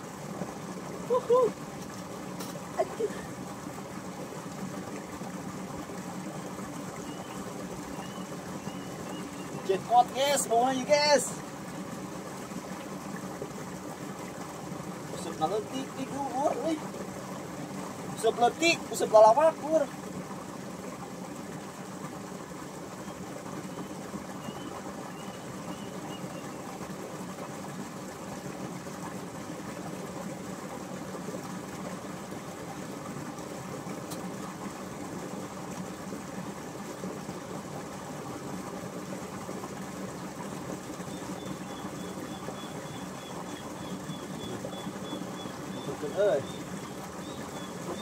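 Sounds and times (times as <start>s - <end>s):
motor humming steadily: 0.0s - 48.0s.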